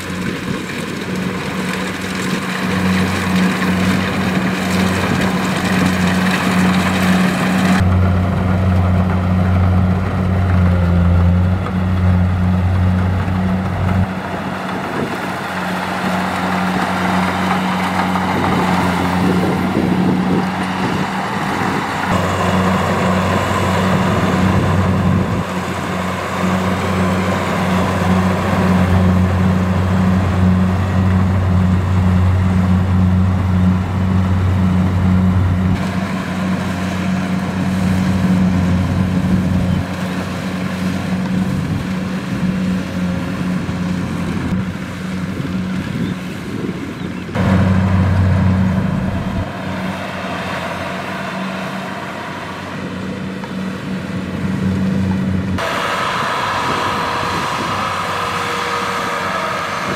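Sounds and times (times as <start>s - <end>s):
diesel engine humming: 0.0s - 59.9s
harvester machinery rattling: 0.0s - 59.9s.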